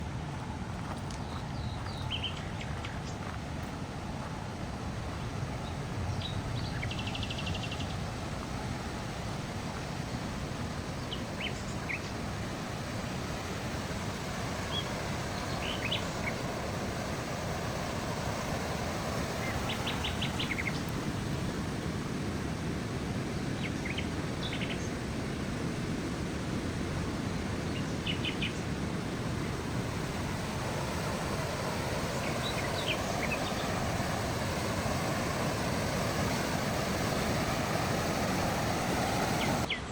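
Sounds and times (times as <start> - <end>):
songbirds chirping: 0.0 - 39.9
steady rushing noise: 0.0 - 39.9.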